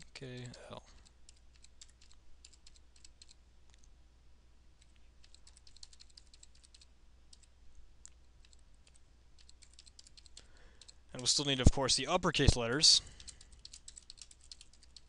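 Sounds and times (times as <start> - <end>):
keyboard typing: 0.0 - 3.9, 4.8 - 11.0, 13.1 - 15.0
low steady hum: 0.0 - 15.0.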